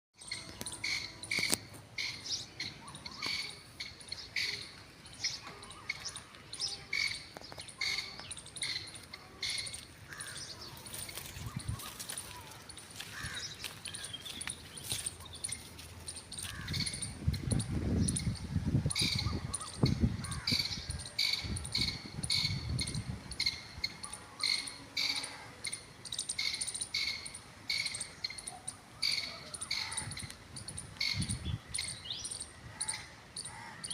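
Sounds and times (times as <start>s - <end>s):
partridge calling: 0.2s - 33.9s.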